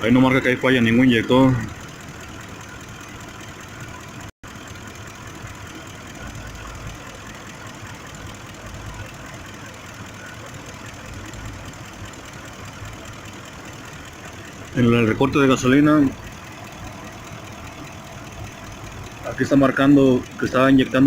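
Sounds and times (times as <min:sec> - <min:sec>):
engine idling with misfire: 0:00.0 - 0:21.0.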